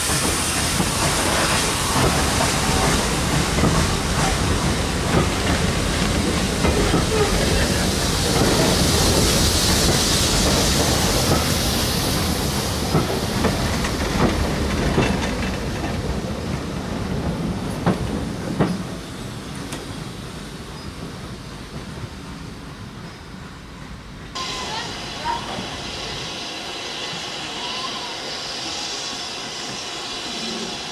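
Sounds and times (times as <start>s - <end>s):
train wheels rushing: 0.0s - 30.9s.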